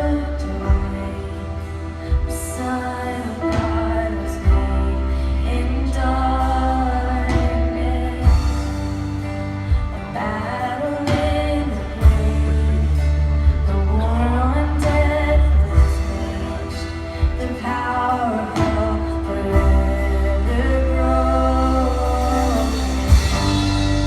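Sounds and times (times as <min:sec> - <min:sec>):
band playing worship music: 0:00.0 - 0:24.0
person singing: 0:00.0 - 0:24.0
sustained bass: 0:00.0 - 0:24.0.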